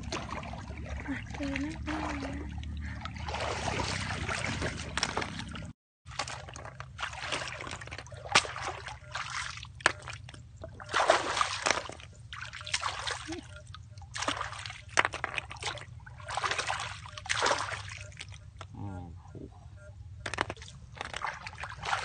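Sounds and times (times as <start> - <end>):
shallow water splashing: 0.0 - 18.6, 20.5 - 22.0.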